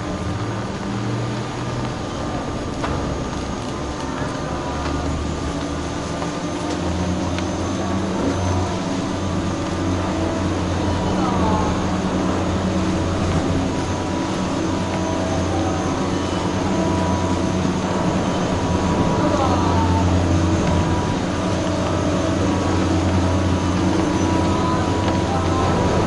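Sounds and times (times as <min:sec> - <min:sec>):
chairlift machinery humming: 0:00.0 - 0:26.0
faint machine whine: 0:00.0 - 0:26.0.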